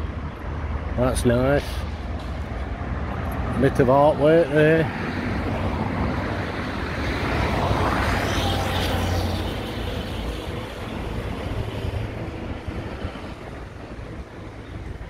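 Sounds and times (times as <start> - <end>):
traffic rumble: 0.0 - 15.0
vehicle passing by: 1.8 - 14.2.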